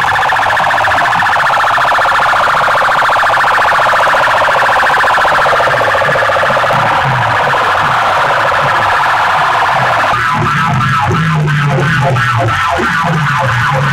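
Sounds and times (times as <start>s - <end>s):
loud warbling alarm tone: 0.0s - 13.9s.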